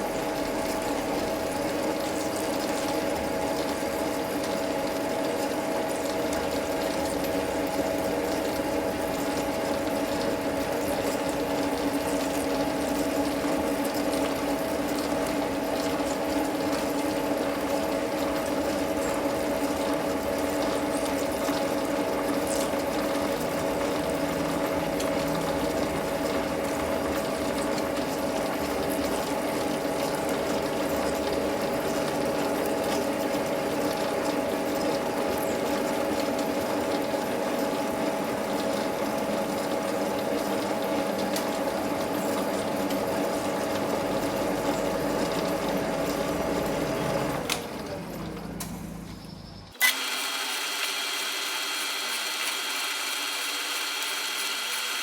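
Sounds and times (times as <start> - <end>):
metal lathe gear whine: 0.0 - 55.0.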